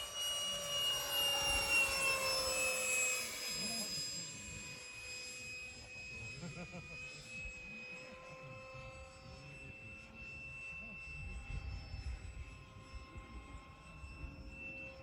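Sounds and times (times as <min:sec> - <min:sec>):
model jet high-pitched whine: 0:00.0 - 0:15.0.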